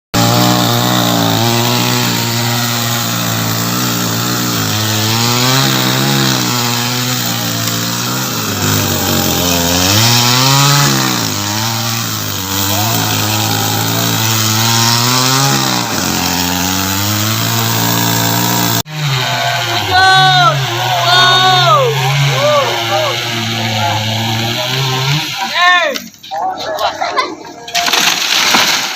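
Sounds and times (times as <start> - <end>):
chainsaw cutting wood: 0.2 - 26.0, 27.8 - 28.9.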